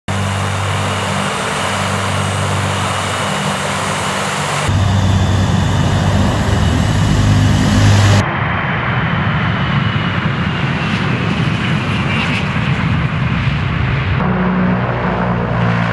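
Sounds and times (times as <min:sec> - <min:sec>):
turboprop engines droning: 0:00.1 - 0:15.9.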